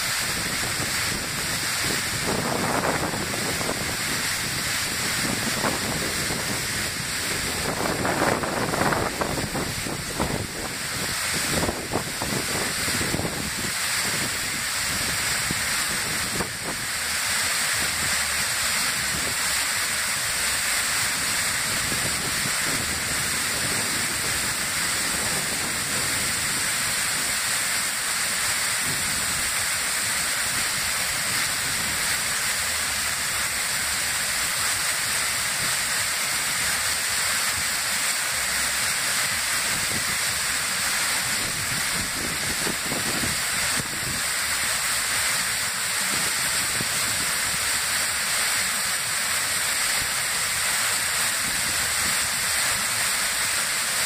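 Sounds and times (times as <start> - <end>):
waterfall pouring: 0.0 - 54.0.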